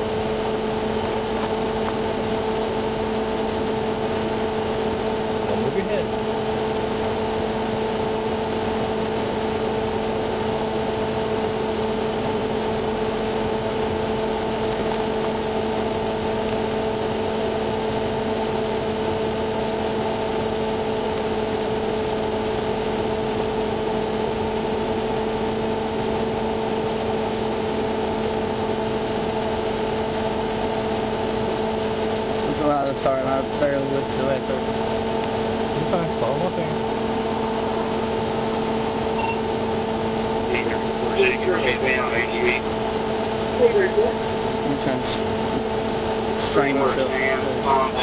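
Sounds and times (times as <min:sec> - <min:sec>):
high electrical whine: 0:00.0 - 0:48.0.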